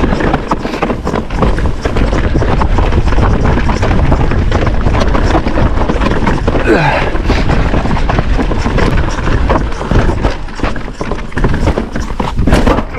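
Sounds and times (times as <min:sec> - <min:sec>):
mountain bike rattling: 0:00.0 - 0:12.9
wind rushing over microphone: 0:00.0 - 0:12.9.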